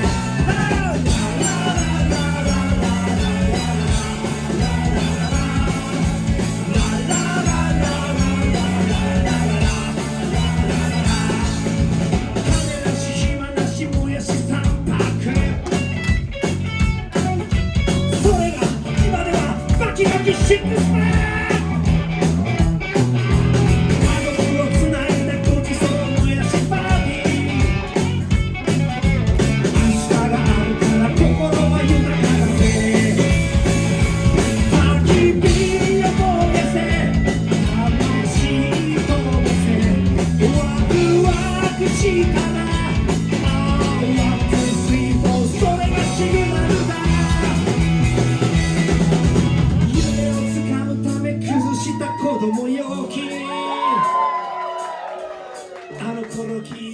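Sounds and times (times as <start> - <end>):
steady drum beat: 0.0 - 50.8
rock band playing live: 0.0 - 56.9.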